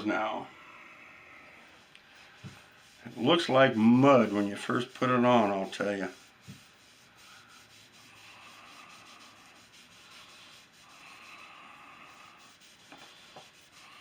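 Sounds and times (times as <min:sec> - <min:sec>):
cloth rubbing on wood: 0:01.7 - 0:14.0.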